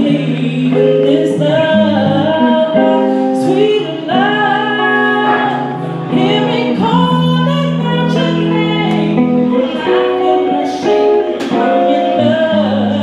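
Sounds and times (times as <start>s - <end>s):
instrumental accompaniment: 0.0s - 13.0s
woman singing into microphone: 0.0s - 13.0s.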